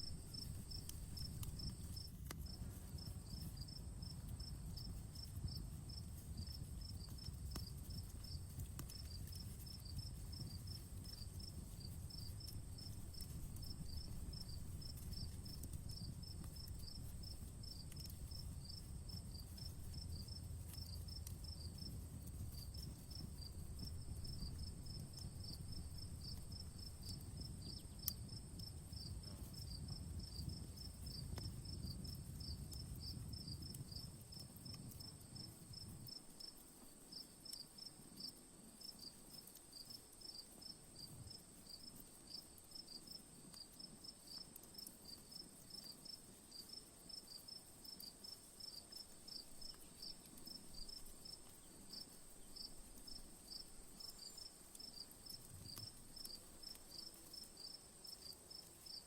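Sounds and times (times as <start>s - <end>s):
campfire crackling: 0.0s - 59.0s
insect chirping: 0.0s - 59.0s.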